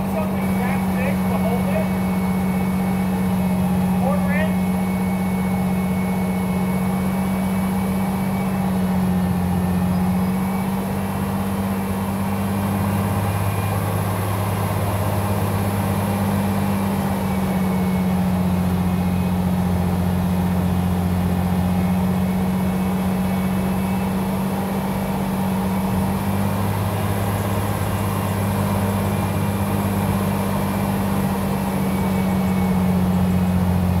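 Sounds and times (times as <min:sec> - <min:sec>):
pickup truck engine running: 0:00.0 - 0:34.0.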